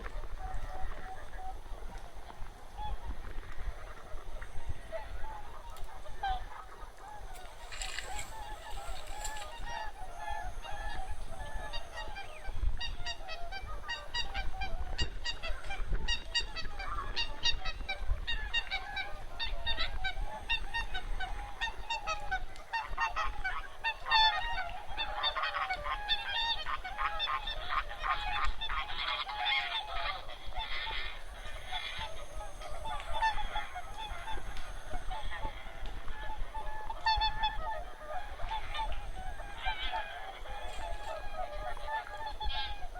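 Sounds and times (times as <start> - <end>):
geese honking: 0.0 - 42.9.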